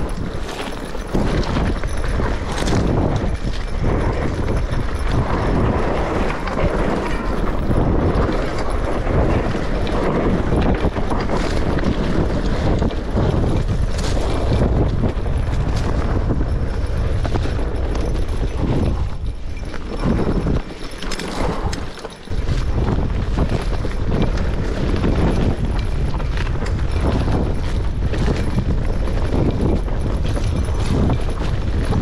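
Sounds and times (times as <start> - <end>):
tyres rumbling on dirt: 0.0 - 32.0
wind buffeting microphone: 0.0 - 32.0.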